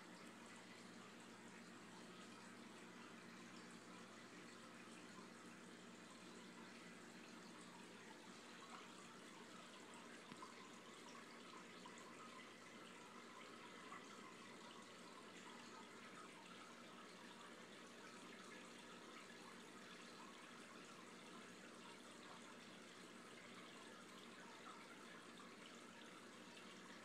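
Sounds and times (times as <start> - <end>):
water trickling in fish tank: 0.0 - 27.0.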